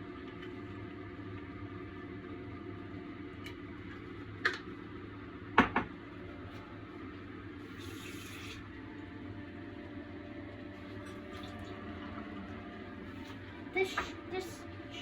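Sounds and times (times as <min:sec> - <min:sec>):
kitchen hum: 0:00.1 - 0:15.0.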